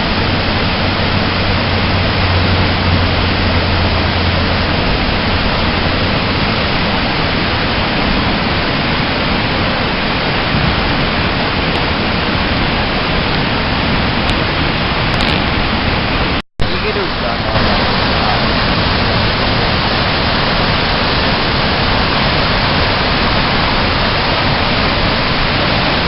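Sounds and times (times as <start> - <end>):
river rapid rushing: 0.0 - 26.0.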